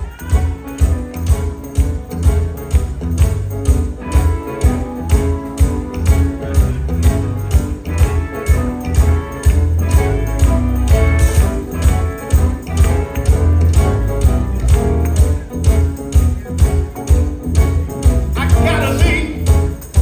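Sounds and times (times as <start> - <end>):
drums: 0.0 - 20.0
guitar: 0.0 - 20.0
heavy bass: 0.0 - 20.0
jingling tambourine: 0.0 - 20.0.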